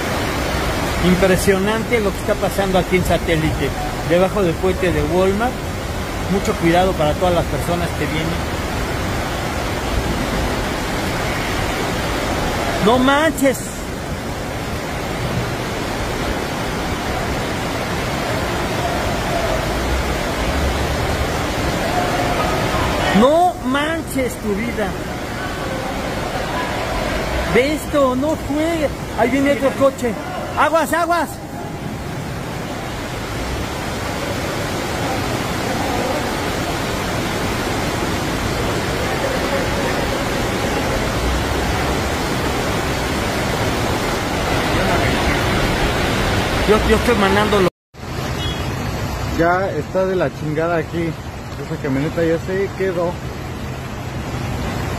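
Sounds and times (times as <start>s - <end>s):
floodwater rushing: 0.0s - 54.9s
heavy rain: 0.0s - 54.9s.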